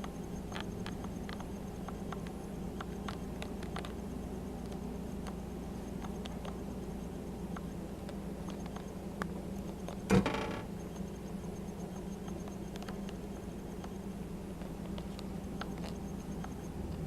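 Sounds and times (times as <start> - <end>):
toaster oven humming: 0.0 - 17.0.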